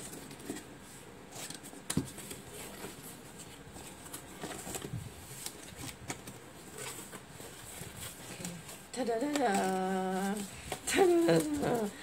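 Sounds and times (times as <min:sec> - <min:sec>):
cardboard parcel rustling: 0:00.0 - 0:12.0.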